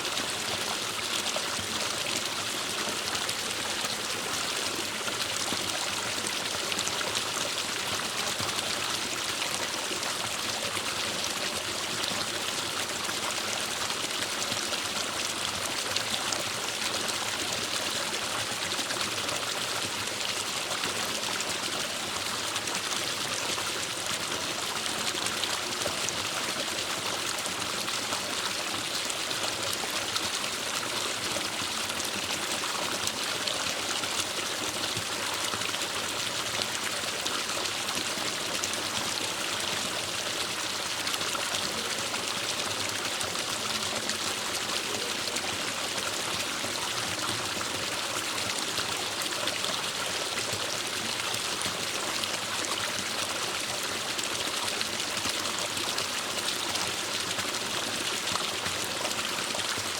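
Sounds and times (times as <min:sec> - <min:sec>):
stream water trickling over rocks: 0:00.0 - 0:59.9.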